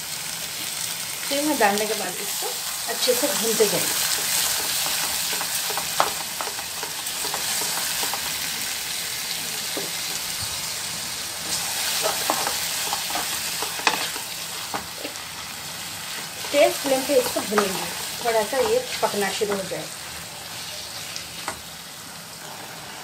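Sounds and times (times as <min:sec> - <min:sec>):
meat and onions sizzling: 0:00.0 - 0:23.0.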